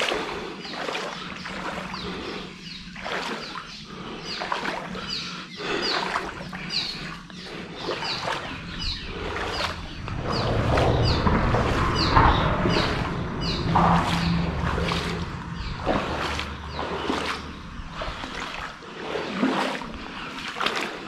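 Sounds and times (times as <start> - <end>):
wading through shallow water: 0.0 - 21.0.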